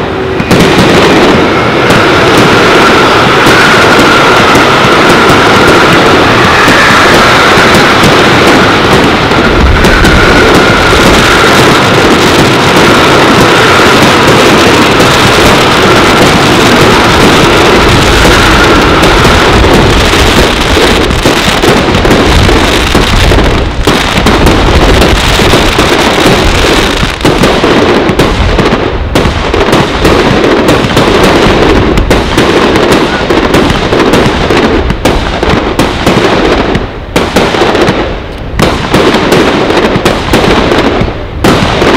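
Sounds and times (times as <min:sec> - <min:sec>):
firework battery shots and crackling: 0:00.0 - 0:41.9.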